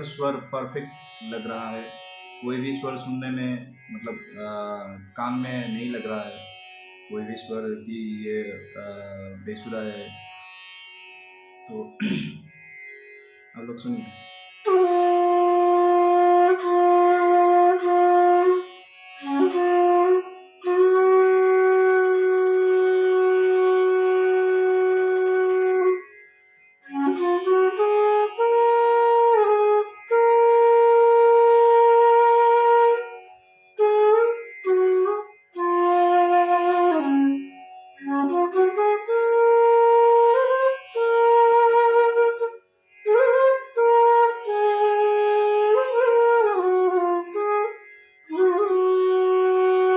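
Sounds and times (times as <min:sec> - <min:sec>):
bamboo flute playing: 0:00.0 - 0:26.2, 0:26.8 - 0:49.9.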